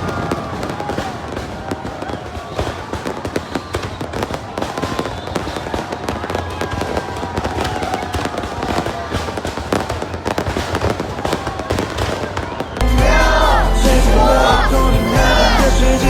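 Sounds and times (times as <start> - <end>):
fireworks bangs and crackles: 0.0 - 14.6.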